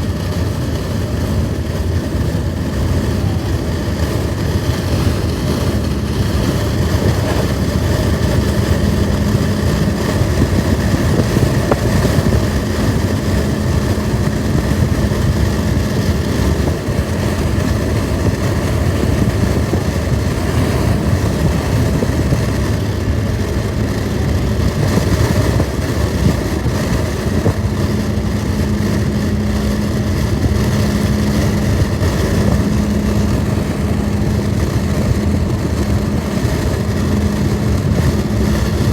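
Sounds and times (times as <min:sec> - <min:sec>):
low steady hum: 0:00.0 - 0:38.9
vehicle rumbling: 0:00.0 - 0:38.9.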